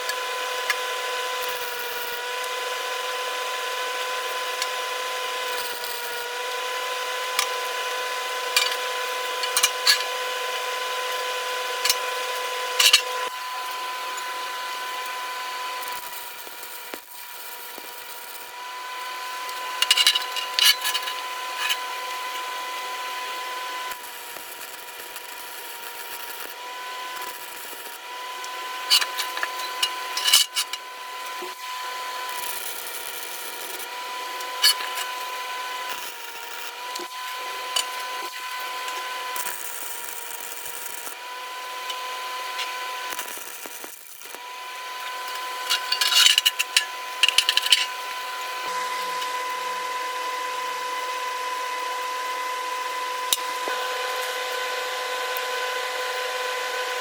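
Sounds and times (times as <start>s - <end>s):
power tool whining on steel: 0.0s - 57.0s.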